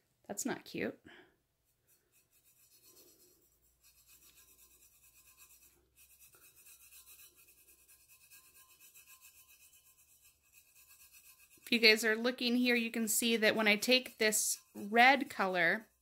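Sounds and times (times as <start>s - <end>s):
fingertip rubbing on metal: 1.7s - 16.0s.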